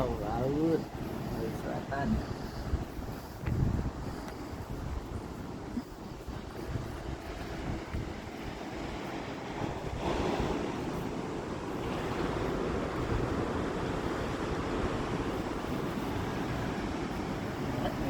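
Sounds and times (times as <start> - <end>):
waves washing onto shore: 0.0 - 18.0
wind on microphone: 0.0 - 18.0.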